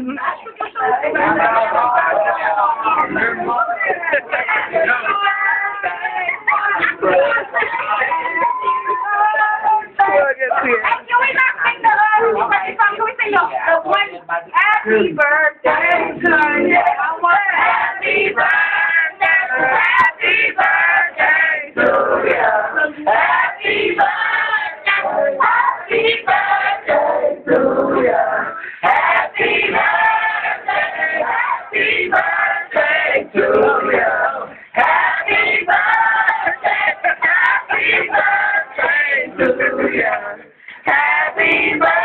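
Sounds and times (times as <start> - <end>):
men and women singing together: 0.0 - 42.0.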